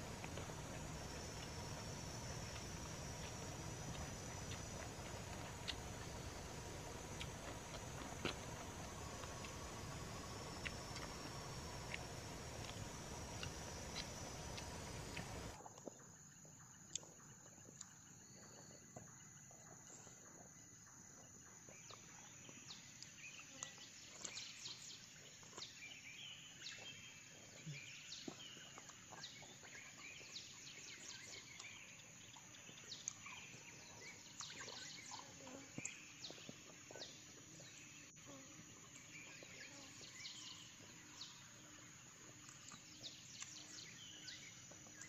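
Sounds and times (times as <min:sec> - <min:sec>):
insect drone: 0:00.0 - 0:16.7, 0:20.3 - 0:45.0.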